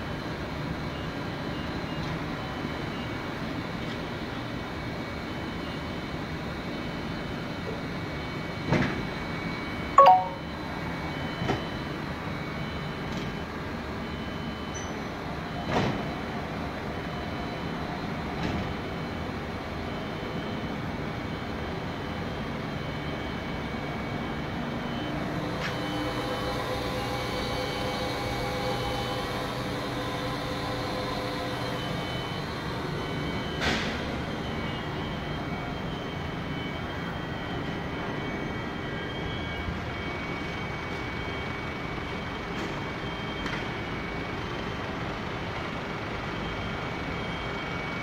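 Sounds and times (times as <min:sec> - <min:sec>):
machine mechanical hum: 0:00.0 - 0:48.0.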